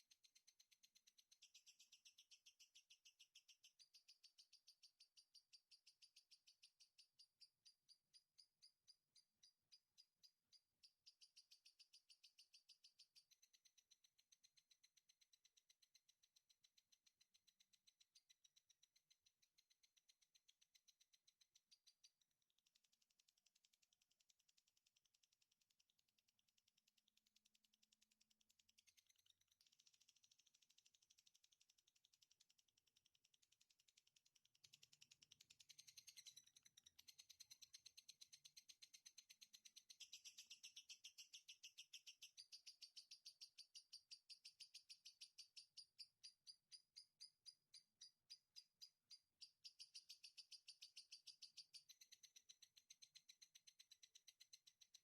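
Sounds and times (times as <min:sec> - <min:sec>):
songbird high chirps: 0:00.0 - 0:26.1, 0:26.8 - 0:55.0.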